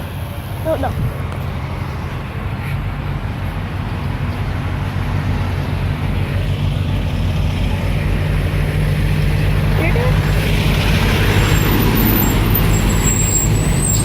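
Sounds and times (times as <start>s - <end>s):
traffic noise: 0.0s - 14.0s
vehicle engine droning: 0.0s - 14.0s.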